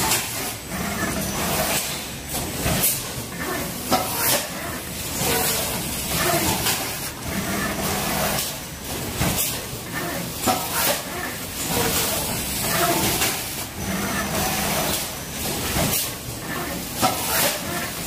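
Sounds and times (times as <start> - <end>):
injection moulding machine hiss and hum: 0.0 - 18.0.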